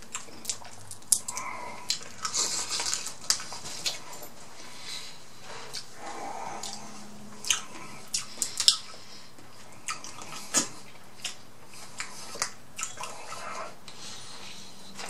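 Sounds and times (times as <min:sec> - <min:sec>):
person chewing with mouth smacks: 0:00.0 - 0:04.3, 0:05.5 - 0:15.0.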